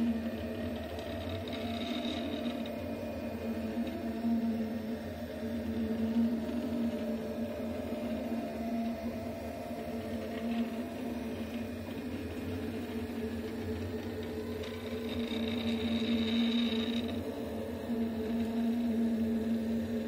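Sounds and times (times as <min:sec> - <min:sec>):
faint high whine: 0:00.0 - 0:20.0
printer stepper motors whining: 0:00.0 - 0:20.0.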